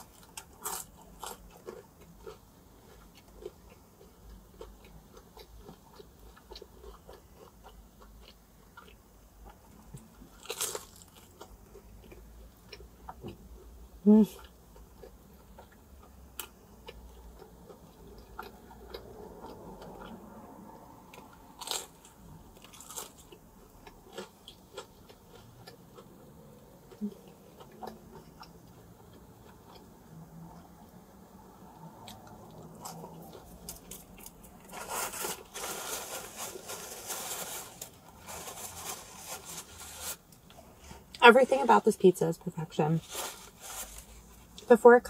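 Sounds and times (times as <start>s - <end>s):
person chewing crunchy pizza: 0.0s - 41.2s.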